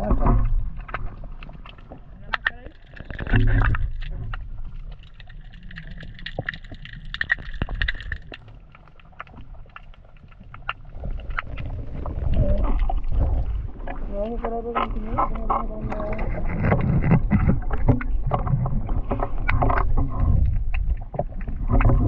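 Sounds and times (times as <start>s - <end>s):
muffled underwater rumble: 0.0s - 22.0s
sharp underwater clicks: 0.4s - 22.0s.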